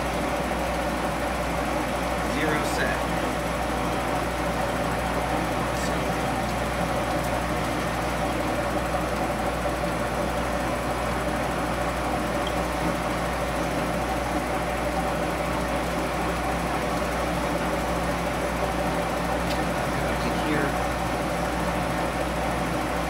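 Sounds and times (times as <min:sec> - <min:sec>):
milling machine hum: 0:00.0 - 0:23.0.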